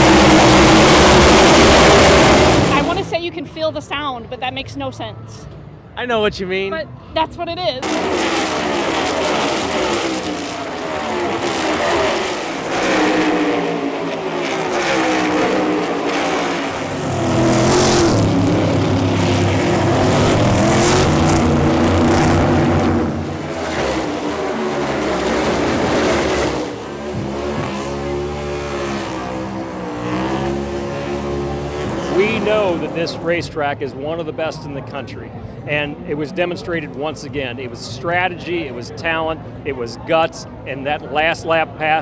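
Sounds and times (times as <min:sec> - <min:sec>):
race car engines passing: 0:00.0 - 0:03.3, 0:07.8 - 0:42.0.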